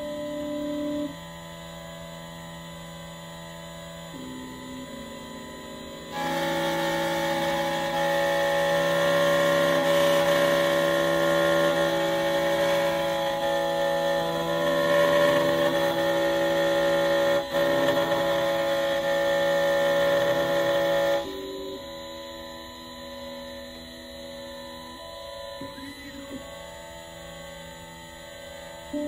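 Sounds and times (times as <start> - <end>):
key cutter spindle whining: 0.0 - 29.0
quiet motor hum: 0.0 - 29.0.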